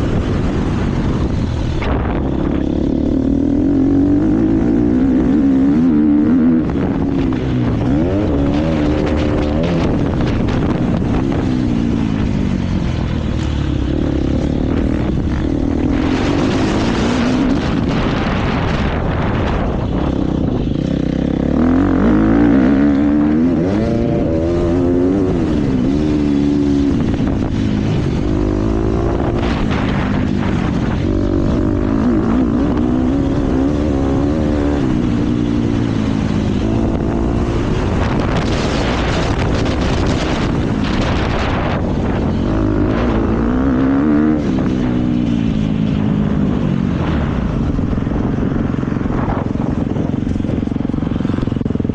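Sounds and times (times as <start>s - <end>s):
motocross bike engine revving: 0.0s - 48.2s.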